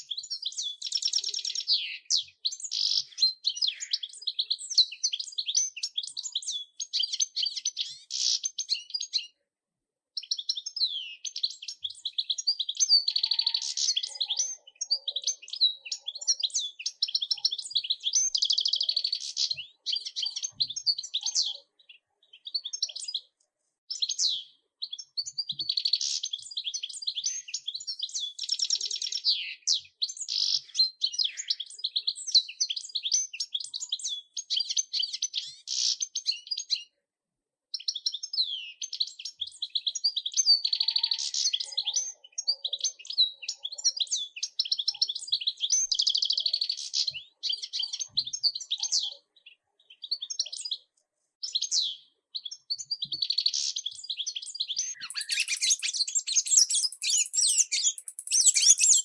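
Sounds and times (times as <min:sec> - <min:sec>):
finch twittering song: 0:00.0 - 0:09.4, 0:10.2 - 0:37.0, 0:37.8 - 0:59.0.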